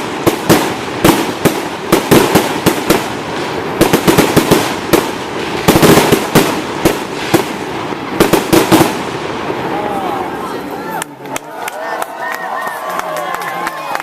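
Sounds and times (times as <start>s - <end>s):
fireworks bangs: 0.0s - 12.0s
fireworks crackling: 0.0s - 14.0s.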